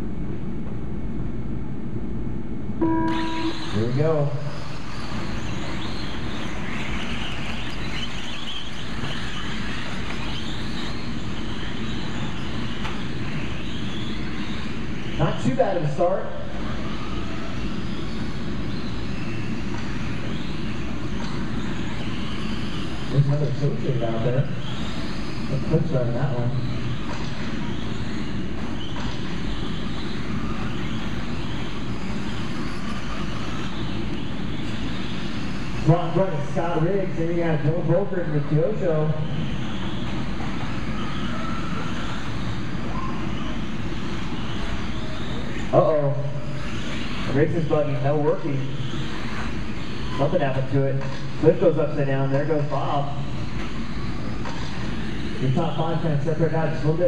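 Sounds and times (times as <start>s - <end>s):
rc car motors whining: 2.8s - 57.0s.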